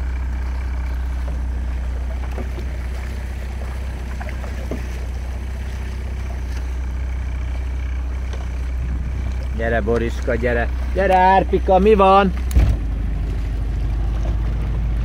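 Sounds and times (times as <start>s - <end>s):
motorboat engine drone: 0.0s - 15.0s
paddles splashing in water: 0.2s - 15.0s.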